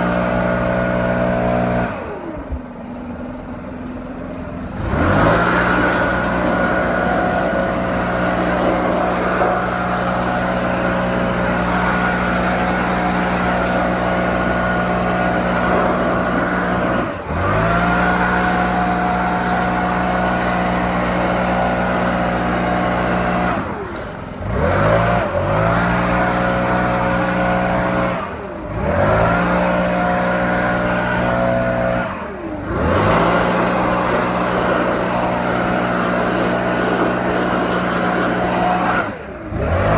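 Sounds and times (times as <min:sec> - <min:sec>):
backpack blower engine running: 0:00.0 - 0:39.9.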